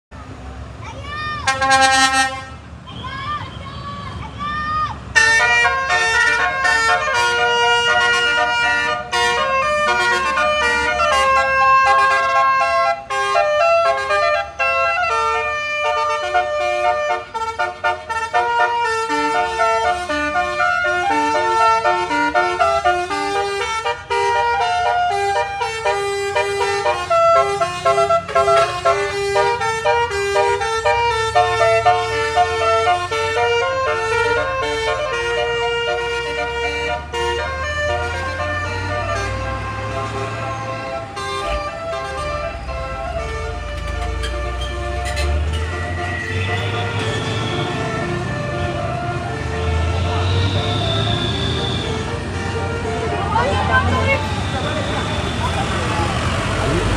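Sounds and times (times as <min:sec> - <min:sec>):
musical air horn playing a tune: 0:01.4 - 0:02.6, 0:05.2 - 0:52.9.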